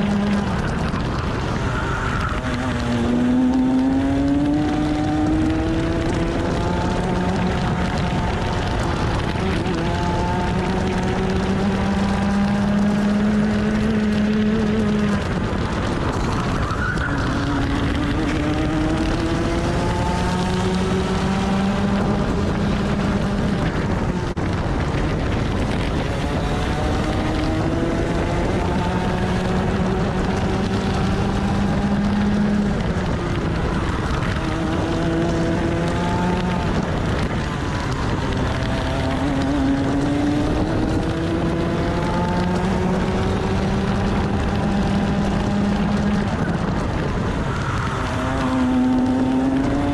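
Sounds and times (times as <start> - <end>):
two-stroke kart engine revving: 0.0 - 49.9.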